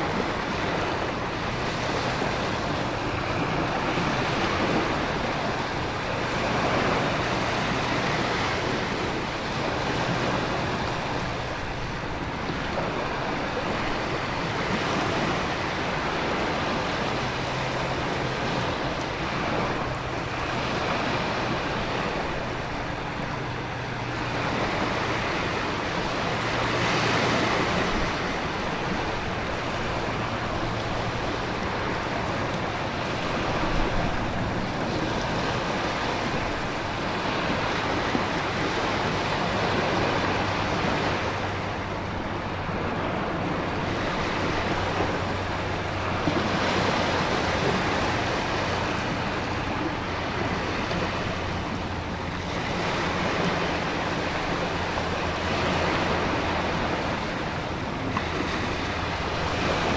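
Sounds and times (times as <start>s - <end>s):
ocean waves surging: 0.0s - 59.9s
wind: 0.0s - 59.9s.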